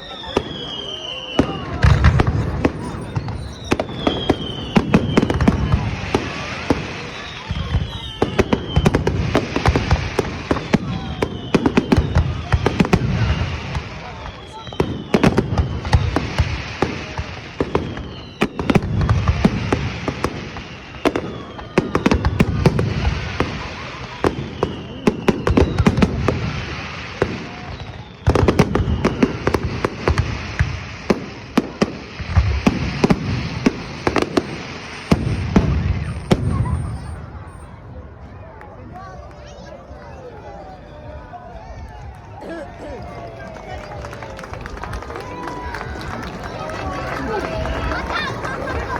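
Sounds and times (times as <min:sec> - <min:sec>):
fireworks crackling bangs: 0:00.0 - 0:37.8, 0:42.3 - 0:48.9.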